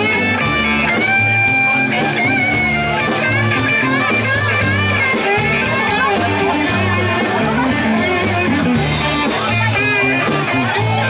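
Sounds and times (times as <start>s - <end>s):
bass guitar: 0.0s - 11.0s
guitar strumming: 0.0s - 11.0s
lead guitar bending notes: 0.0s - 11.0s
steady drum beat: 0.0s - 11.0s.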